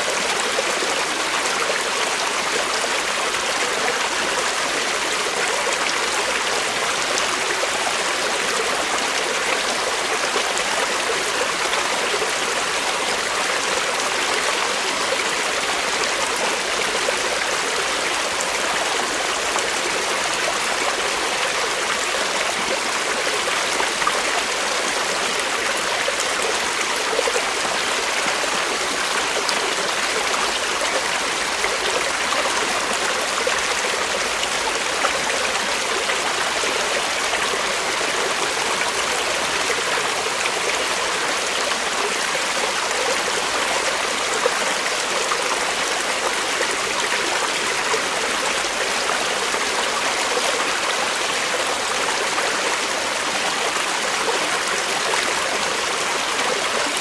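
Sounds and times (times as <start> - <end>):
creek water flowing over stones: 0.0 - 57.0.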